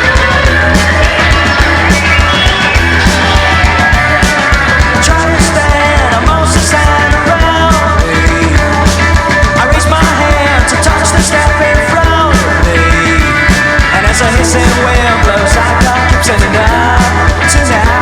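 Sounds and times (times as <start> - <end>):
bass guitar: 0.0 - 18.0
drums keeping steady beat: 0.0 - 18.0
electric guitars: 0.0 - 18.0.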